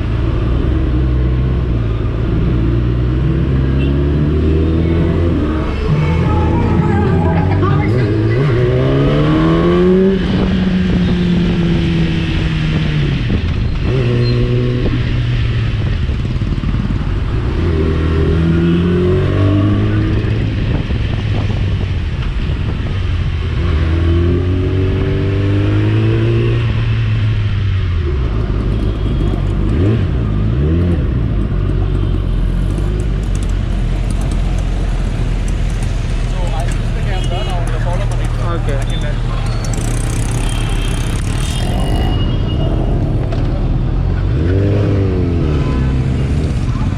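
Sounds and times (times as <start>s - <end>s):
motorcycle engine revving through gears: 0.0s - 37.0s, 38.0s - 46.9s.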